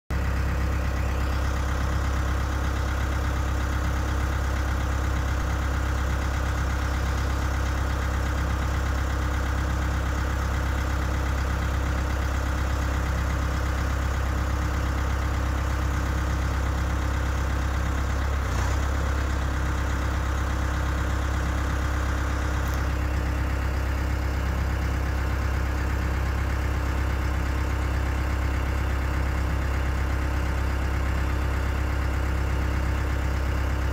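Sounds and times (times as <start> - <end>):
diesel engine idling: 0.1 - 33.9.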